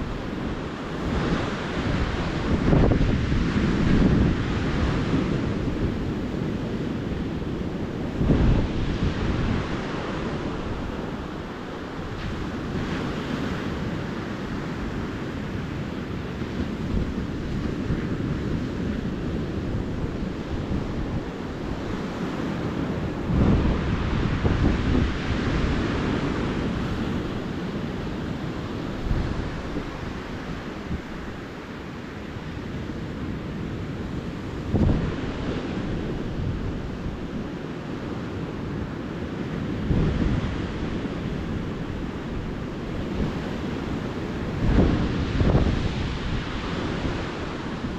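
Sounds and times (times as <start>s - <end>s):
waves breaking on a beach: 0.0s - 47.9s
wind buffeting microphone: 0.0s - 47.9s.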